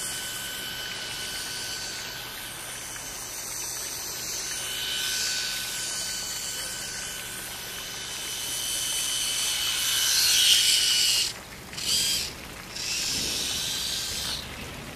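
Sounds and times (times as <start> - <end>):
small electric boat motor whining: 0.0 - 14.9.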